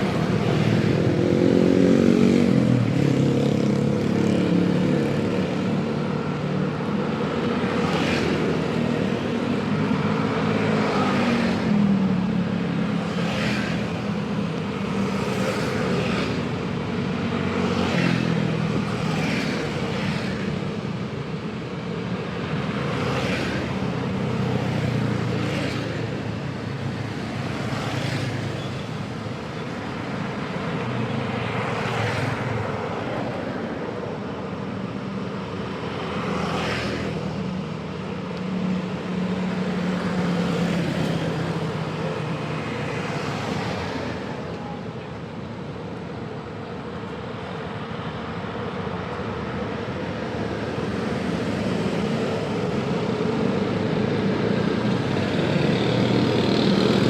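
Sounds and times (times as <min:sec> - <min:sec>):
vehicles passing: 0:00.0 - 0:57.0.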